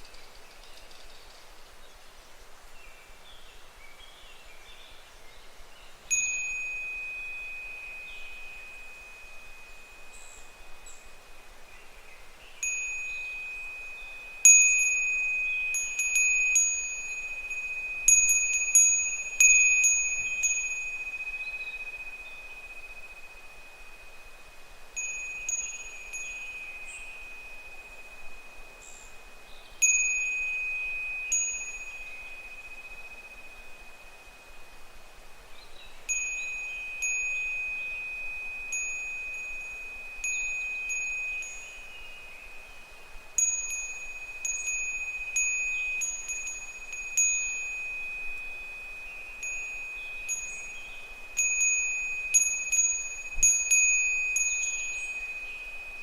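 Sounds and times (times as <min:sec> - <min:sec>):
wind bell ringing: 0:06.1 - 0:11.3, 0:12.6 - 0:34.6, 0:36.0 - 0:56.0.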